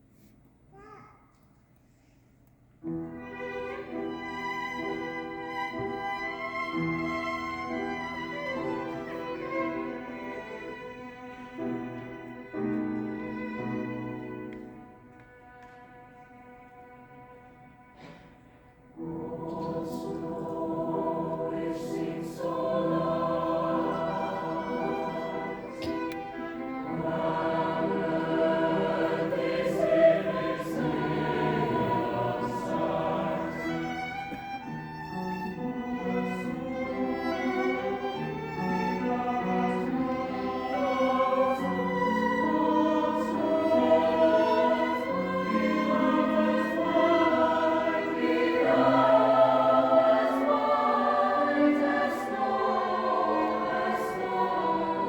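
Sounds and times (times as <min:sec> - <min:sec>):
choir singing: 0:02.9 - 0:55.0.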